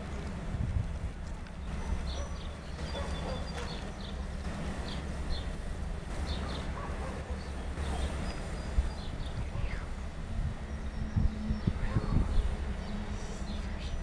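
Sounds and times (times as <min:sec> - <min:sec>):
freight train rumbling: 0:00.0 - 0:14.0
small birds chirping: 0:01.2 - 0:14.0.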